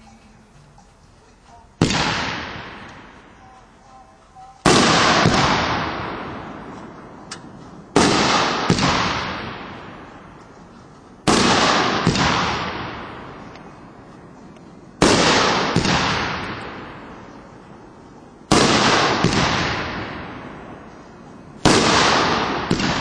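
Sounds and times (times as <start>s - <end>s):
firework shells bursting: 1.8s - 3.6s, 4.6s - 23.0s
smaller firework crack: 1.8s - 3.6s, 4.6s - 23.0s.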